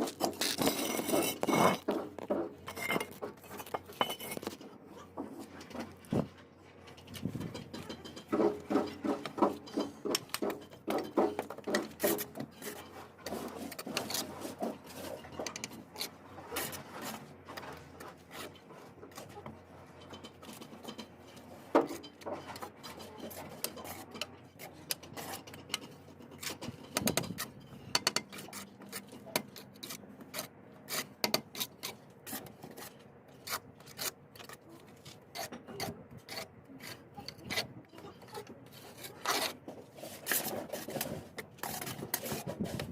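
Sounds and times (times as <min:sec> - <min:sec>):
trowel scraping and tapping bricks: 0:00.0 - 0:42.9.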